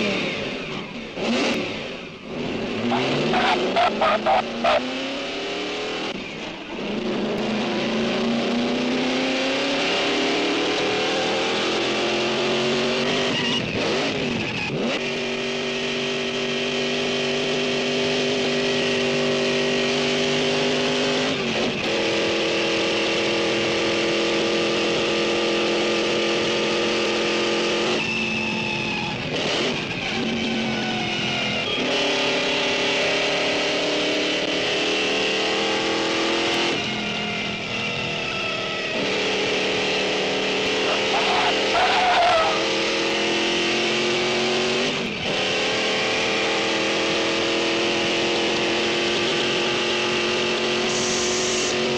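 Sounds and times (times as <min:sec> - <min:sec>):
racing engine running hard: 0:00.0 - 0:51.9.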